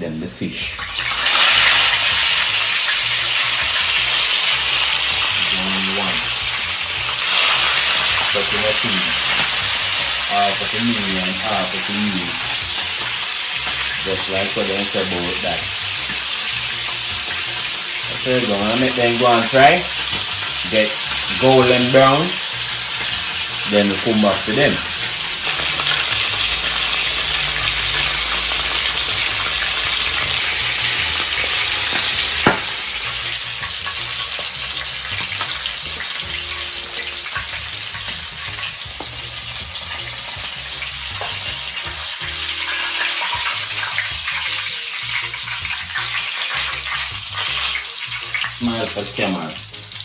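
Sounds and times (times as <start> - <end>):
fish sizzling in hot oil: 0.8 - 50.0.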